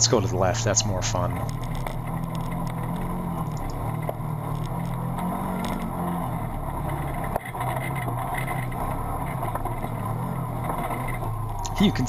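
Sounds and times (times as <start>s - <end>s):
vehicle engine running: 0.0s - 12.0s
light clicks and rattles: 0.6s - 12.0s.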